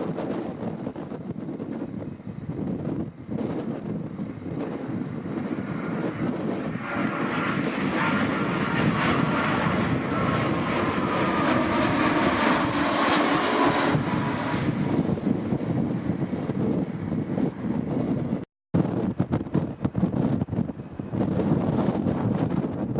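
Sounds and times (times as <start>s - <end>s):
airliner engines passing: 0.0s - 18.4s, 19.1s - 22.9s.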